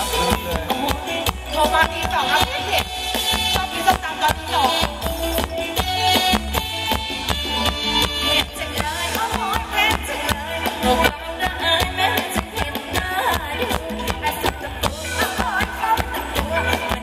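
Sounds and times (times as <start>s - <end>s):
live band playing dance music: 0.0s - 17.0s.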